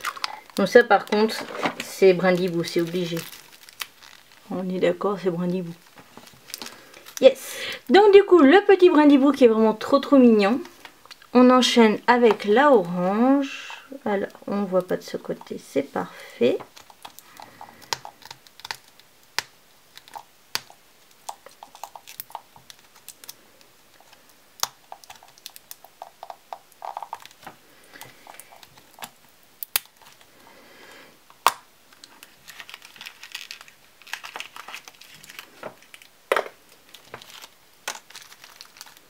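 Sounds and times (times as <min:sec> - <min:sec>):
plastic wrapping crinkling: 0:00.0 - 0:39.0.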